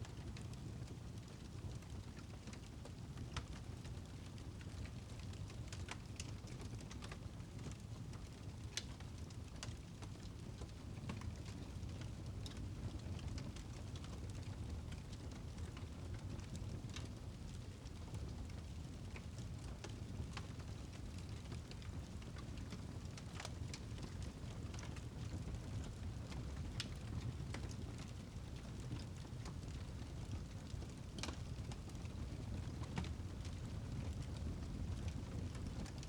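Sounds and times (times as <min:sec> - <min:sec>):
fire pops and crackles: 0:00.1 - 0:36.0
fire rumble: 0:00.1 - 0:36.0.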